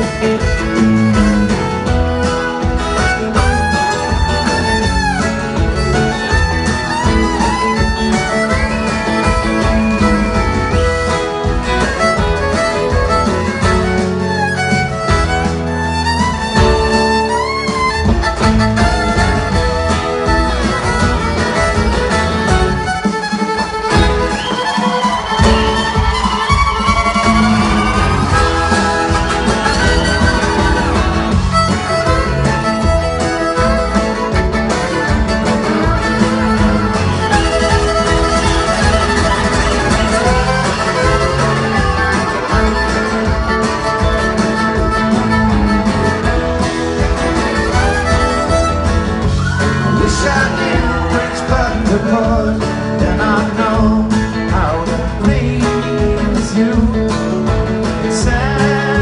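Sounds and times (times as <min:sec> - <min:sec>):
electric bass guitar: 0:00.0 - 0:23.1, 0:23.8 - 0:59.0
fiddle melody: 0:00.0 - 0:59.0
steady drum beat: 0:00.0 - 0:59.0.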